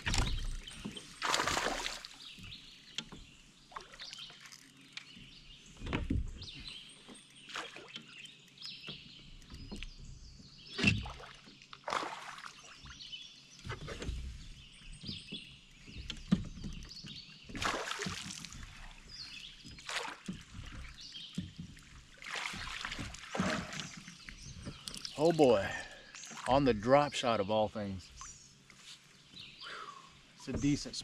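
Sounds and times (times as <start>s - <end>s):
water splashing around kayak: 0.0s - 31.0s.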